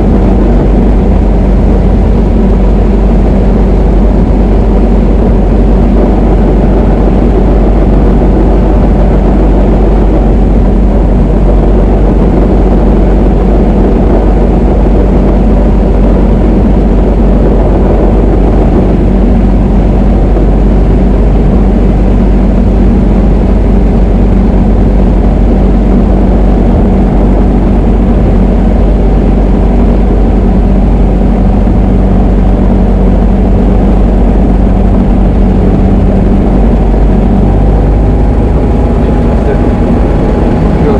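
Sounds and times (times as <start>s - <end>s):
light aircraft engine and propeller: 0.0s - 40.9s.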